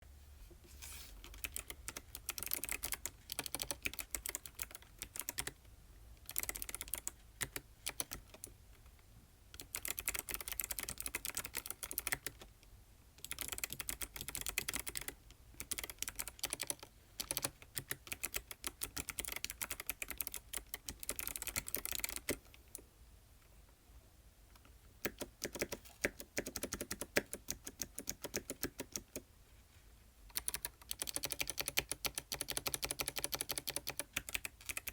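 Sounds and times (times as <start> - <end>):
mechanical keyboard typing: 1.2 - 5.6, 6.2 - 8.5, 9.6 - 12.5, 13.2 - 22.8, 24.6 - 29.2, 30.3 - 34.9.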